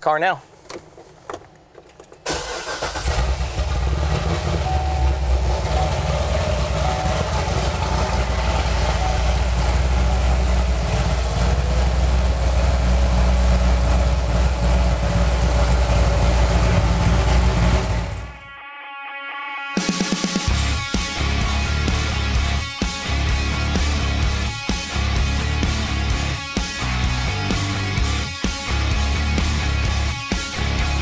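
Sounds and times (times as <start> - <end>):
car engine starting and idling: 0.5 - 18.5, 20.5 - 31.0.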